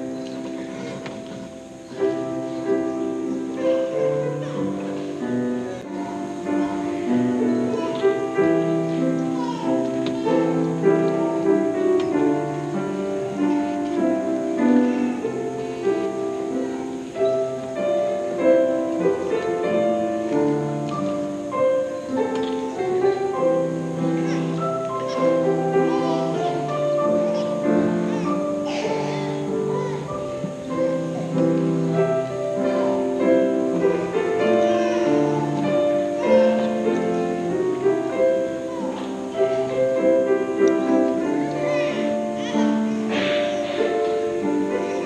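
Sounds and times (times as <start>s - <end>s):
piano accompaniment: 0.0s - 45.0s.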